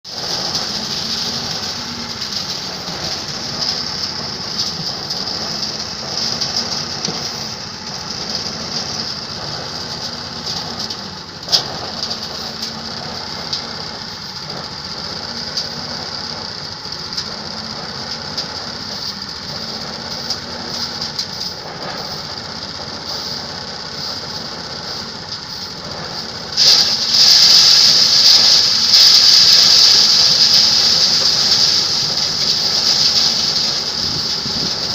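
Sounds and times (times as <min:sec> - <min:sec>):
threshing machine whirring: 0:00.1 - 0:34.9.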